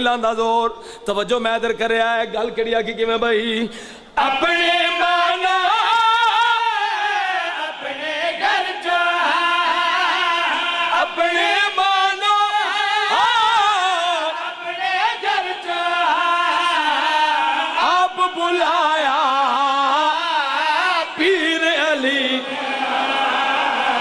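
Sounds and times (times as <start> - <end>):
men singing in chorus: 4.2 - 24.0.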